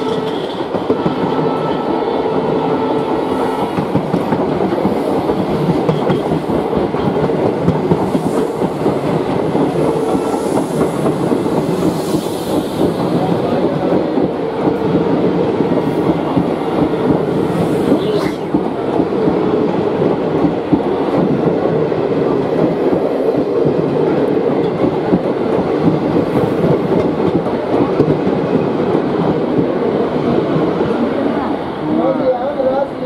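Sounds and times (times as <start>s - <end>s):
clickety-clack of rail joints: 0.0s - 31.2s
train wheels rumbling on track: 0.0s - 33.0s.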